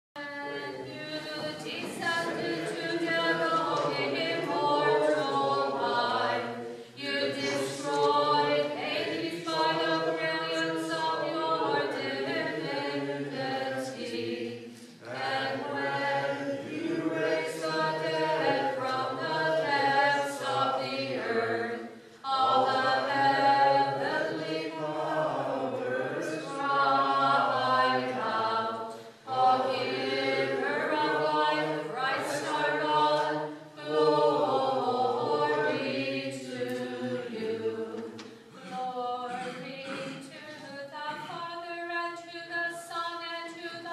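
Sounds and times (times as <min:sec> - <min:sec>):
group chanting a cappella: 0:00.2 - 0:43.9.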